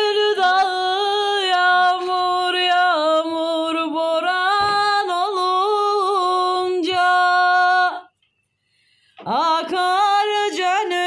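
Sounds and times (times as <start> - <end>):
woman singing unaccompanied: 0.0 - 8.2, 9.2 - 11.0.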